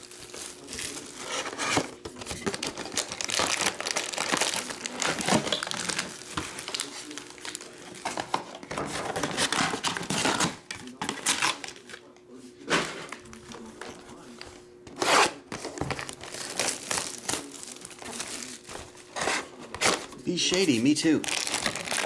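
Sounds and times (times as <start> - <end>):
shrink wrap crumpling: 0.0 - 12.1, 15.4 - 22.0
foil packs being handled: 0.0 - 22.0.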